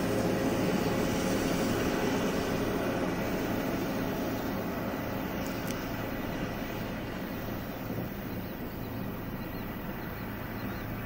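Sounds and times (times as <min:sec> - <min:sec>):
distant mechanical drone: 0:00.0 - 0:11.0.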